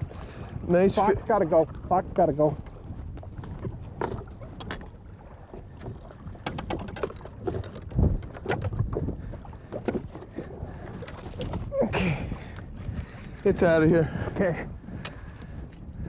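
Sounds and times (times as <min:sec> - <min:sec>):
water against a hull: 0:00.0 - 0:16.0
wind on microphone: 0:00.0 - 0:16.0.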